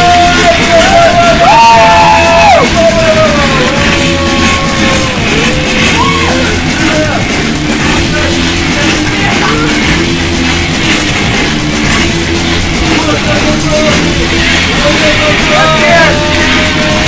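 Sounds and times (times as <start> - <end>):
barrel organ dance music: 0.0 - 17.0.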